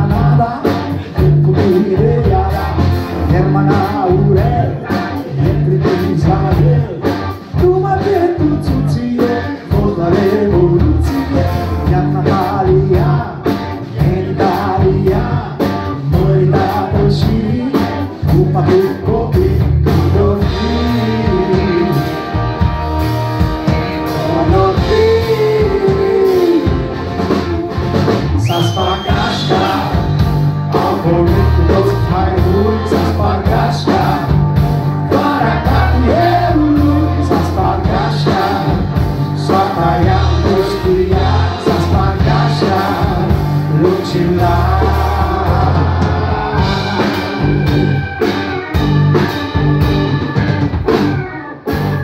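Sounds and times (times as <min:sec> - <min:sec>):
man singing: 0:00.0 - 0:22.5, 0:23.9 - 0:27.7, 0:28.4 - 0:48.0
bass guitar: 0:00.0 - 0:52.0
drums: 0:00.0 - 0:52.0
electric guitar: 0:00.0 - 0:52.0.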